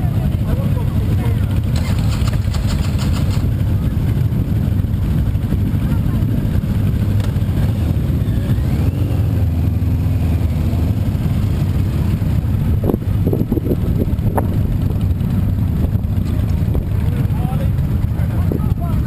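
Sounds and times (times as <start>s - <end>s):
motorcycle engine low rumble: 0.0s - 19.0s.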